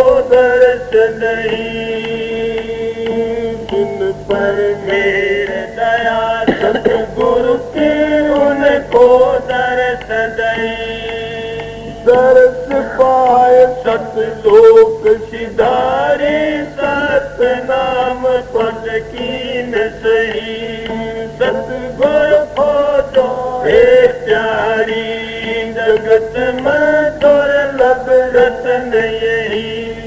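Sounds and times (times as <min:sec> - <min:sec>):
man singing devotional chant: 0:00.0 - 0:30.0
steady held drone: 0:00.0 - 0:30.0.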